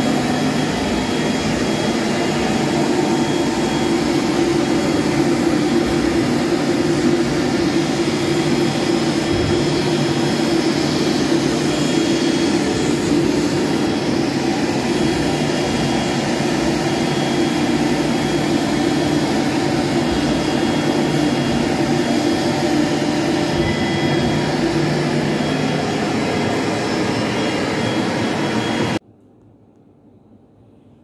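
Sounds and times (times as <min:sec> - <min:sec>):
high whine: 0:00.0 - 0:29.0.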